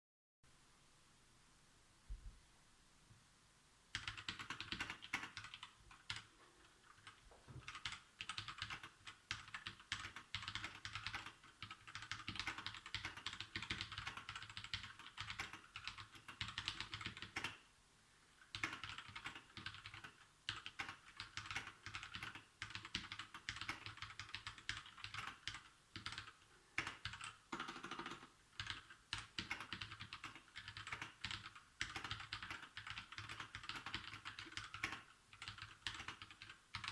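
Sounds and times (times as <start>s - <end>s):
mechanical keyboard typing: 3.9s - 17.6s, 18.5s - 36.9s.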